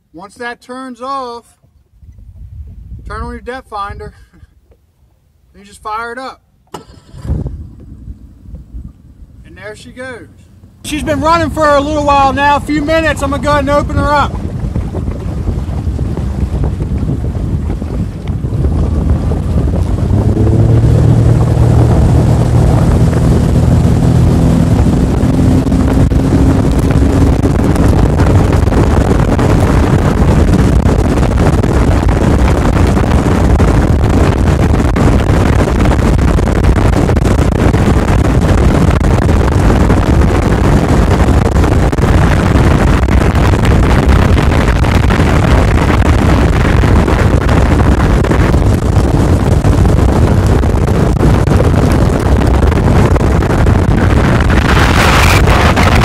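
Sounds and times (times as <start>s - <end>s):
rush of wind and water: 0.0s - 56.0s
outboard motor at full throttle: 6.6s - 56.0s.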